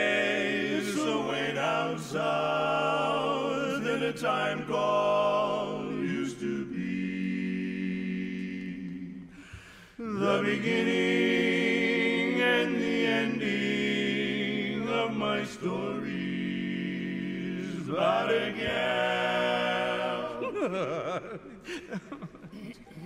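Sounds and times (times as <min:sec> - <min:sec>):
barbershop quartet singing: 0:00.0 - 0:22.2.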